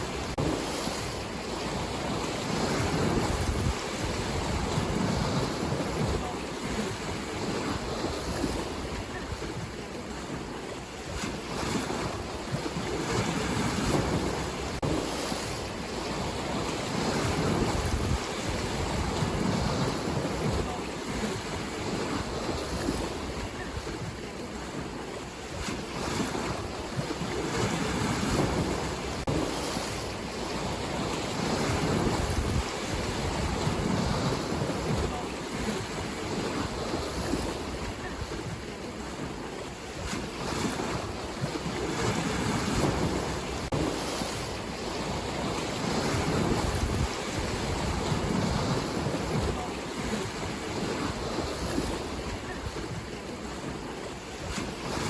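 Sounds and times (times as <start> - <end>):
ocean waves breaking: 0.0 - 55.0
wind rumbling on microphone: 0.0 - 55.0.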